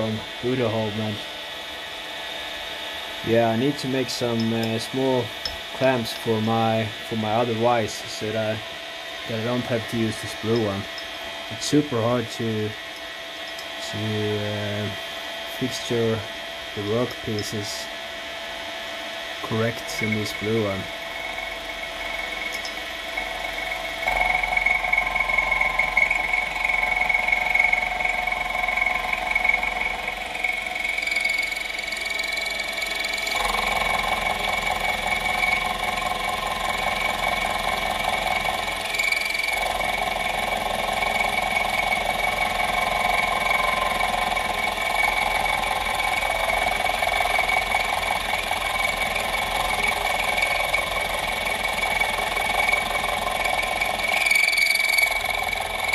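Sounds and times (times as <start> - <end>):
steady motor whine: 0.0 - 55.9
milling machine cutting steel: 2.9 - 18.2, 19.2 - 55.9.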